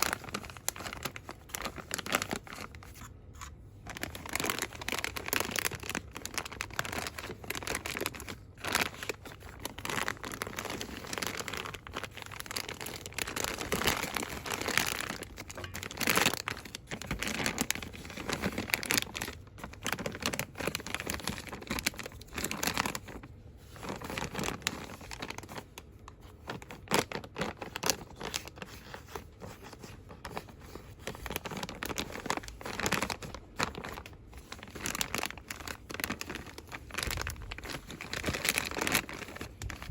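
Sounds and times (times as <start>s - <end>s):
packaging crinkling: 0.0s - 39.9s.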